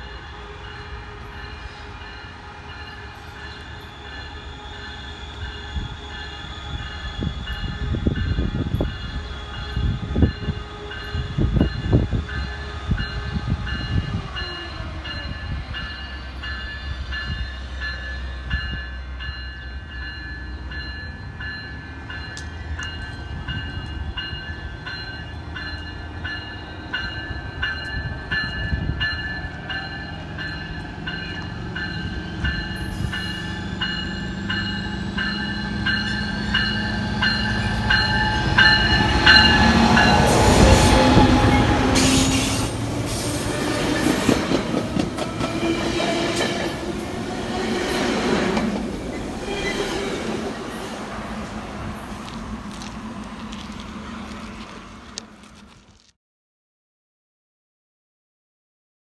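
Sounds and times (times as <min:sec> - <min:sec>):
train bell ringing: 0:00.0 - 0:52.8
diesel train passing: 0:00.0 - 0:56.0.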